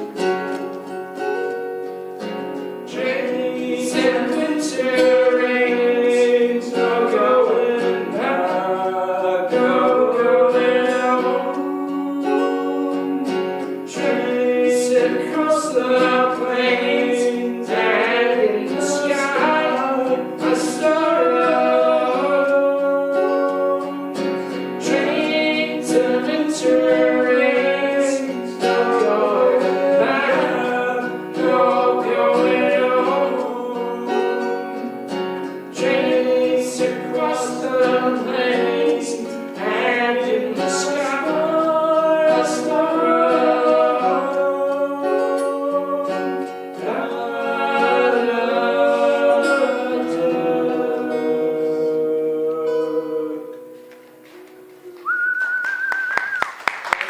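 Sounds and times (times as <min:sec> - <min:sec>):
two people singing: 0:00.0 - 0:56.4
guitar: 0:00.0 - 0:57.0.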